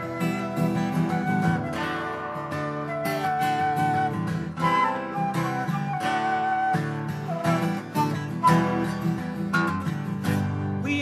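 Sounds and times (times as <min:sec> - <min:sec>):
acoustic guitar strumming: 0:00.0 - 0:11.0
picked guitar melody: 0:00.0 - 0:11.0.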